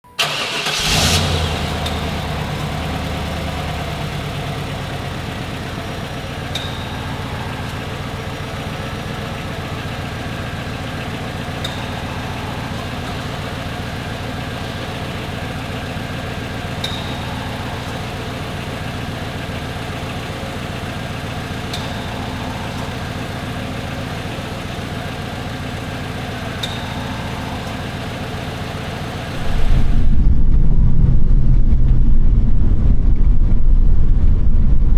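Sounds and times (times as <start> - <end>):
car engine starting and idling: 0.0 - 34.0.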